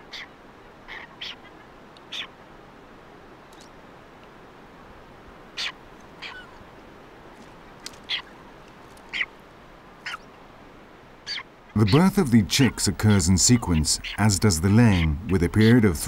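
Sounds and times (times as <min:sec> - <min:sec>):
birds calling: 0:00.0 - 0:02.5, 0:03.4 - 0:04.0, 0:05.4 - 0:10.6, 0:11.2 - 0:16.0
faint steady hiss: 0:00.0 - 0:16.0.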